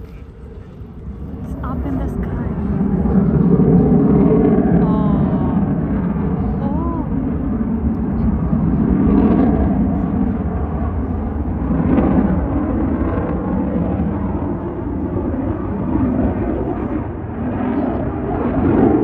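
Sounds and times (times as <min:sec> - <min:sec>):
aircraft engine rumble overhead: 0:00.0 - 0:19.0.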